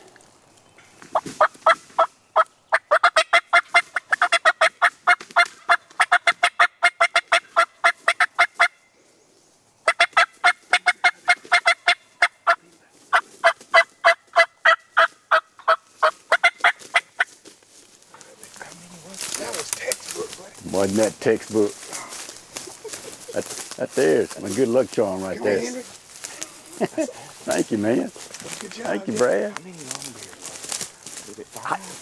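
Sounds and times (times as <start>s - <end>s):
turkey clucking: 1.1s - 8.8s, 9.8s - 17.4s, 18.1s - 32.0s.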